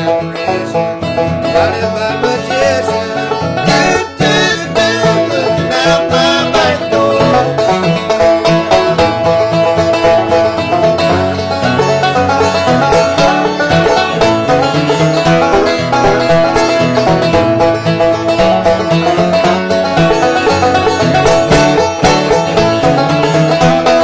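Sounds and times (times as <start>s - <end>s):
banjo picking: 0.0s - 24.0s
guitar playing: 0.0s - 24.0s.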